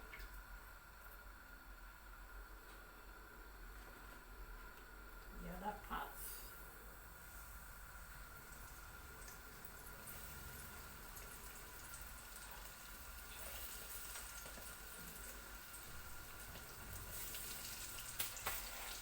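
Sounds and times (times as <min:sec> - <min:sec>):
food deep-frying in oil: 0:00.0 - 0:19.0.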